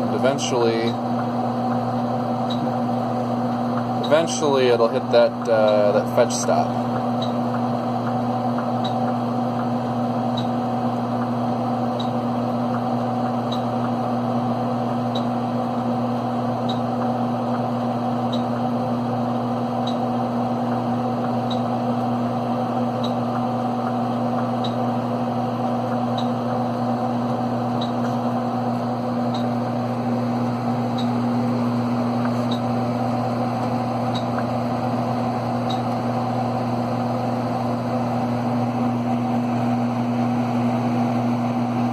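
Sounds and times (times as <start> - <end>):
computer fans humming: 0.0 - 41.9.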